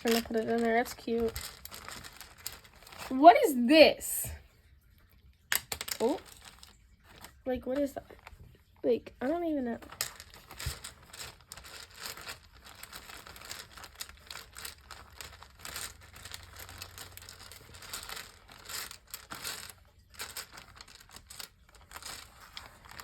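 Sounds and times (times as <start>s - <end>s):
hands rummaging through small charms: 0.0s - 3.3s, 5.5s - 7.9s, 9.8s - 23.0s.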